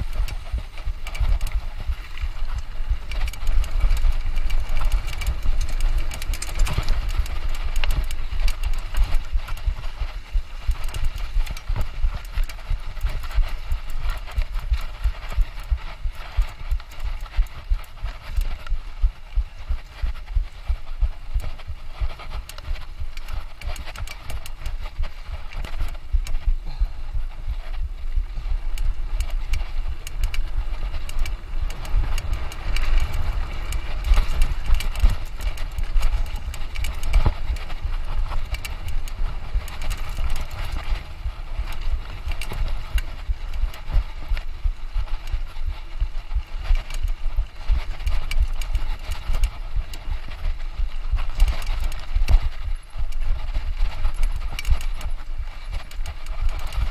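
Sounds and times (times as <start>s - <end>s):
mountain bike rattling on rough trail: 0.0s - 56.9s.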